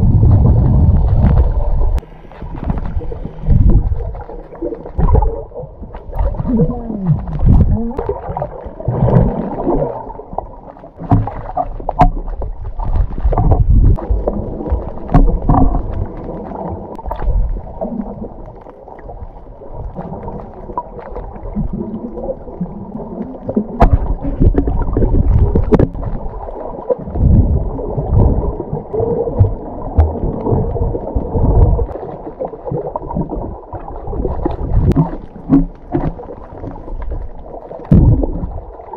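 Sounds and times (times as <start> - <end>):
muffled underwater sloshing: 0.0 - 38.9.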